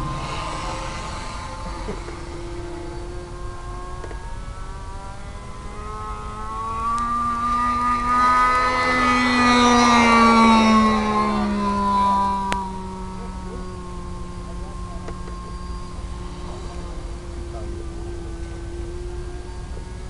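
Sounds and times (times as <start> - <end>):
model airplane engine buzzing: 0.0 - 20.0.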